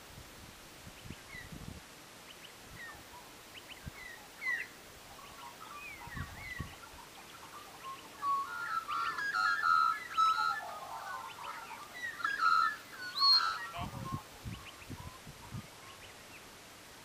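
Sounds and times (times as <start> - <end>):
faint outdoor background: 0.0 - 17.0
small birds chirping: 2.2 - 17.0.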